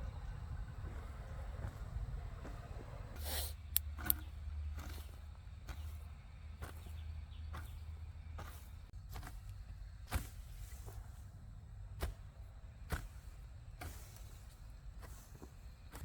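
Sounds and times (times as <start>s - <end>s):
low steady rumble: 0.0s - 13.6s.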